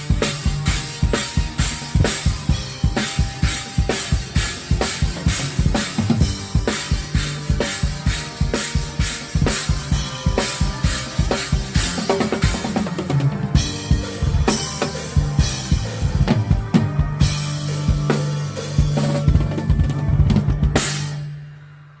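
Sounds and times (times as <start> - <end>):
drum kit playing: 0.0 - 22.0.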